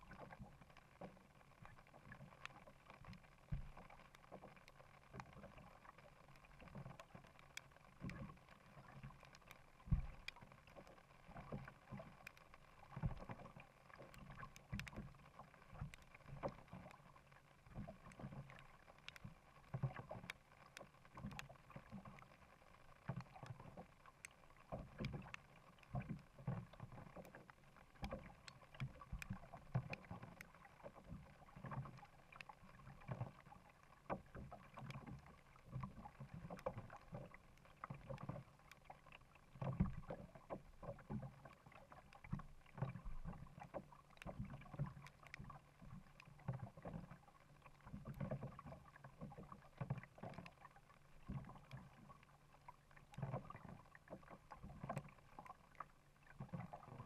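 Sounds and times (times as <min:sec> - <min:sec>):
small clicks and drips: 0:00.0 - 0:57.0.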